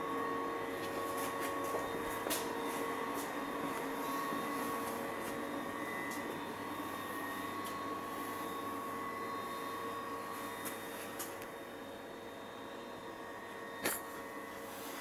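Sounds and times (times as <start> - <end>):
mechanical hum with whine: 0.0 - 15.0.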